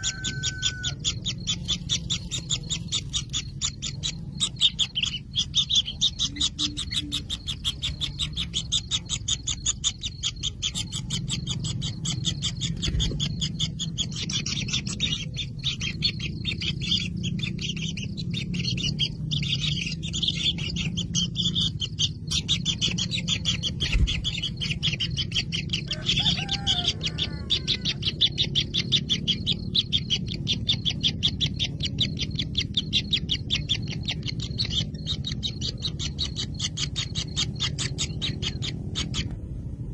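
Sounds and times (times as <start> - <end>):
low hum: 0.0 - 39.9
nestlings high clicking calls: 0.0 - 39.9.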